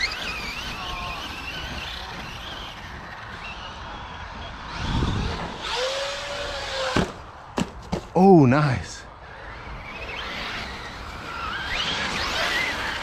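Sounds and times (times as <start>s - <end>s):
rc car motors whining: 0.0s - 7.4s, 9.1s - 13.0s.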